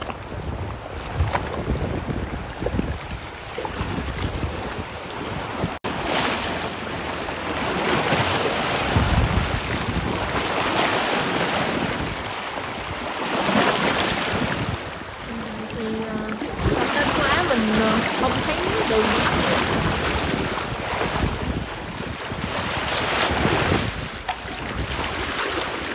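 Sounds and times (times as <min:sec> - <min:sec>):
sea waves breaking: 0:00.0 - 0:25.9
wind buffeting microphone: 0:00.0 - 0:25.9.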